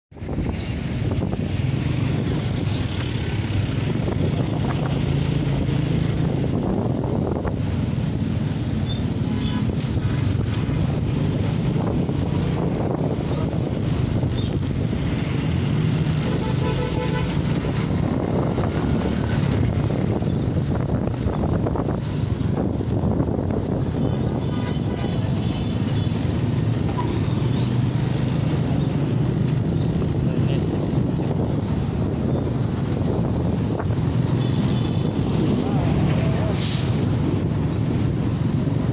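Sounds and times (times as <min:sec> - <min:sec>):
road traffic: 0:00.1 - 0:38.9
wind rushing over microphone: 0:00.1 - 0:38.9.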